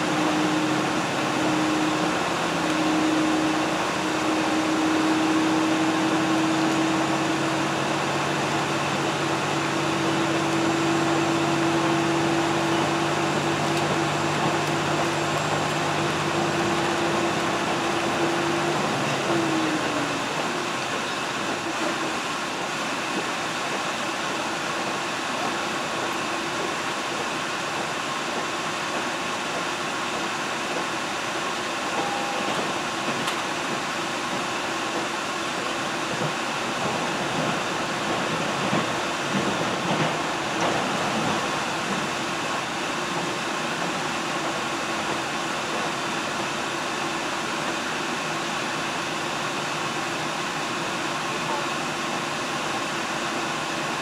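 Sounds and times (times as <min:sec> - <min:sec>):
train engine hum: 0:00.0 - 0:54.0
train rolling rumble: 0:00.0 - 0:54.0.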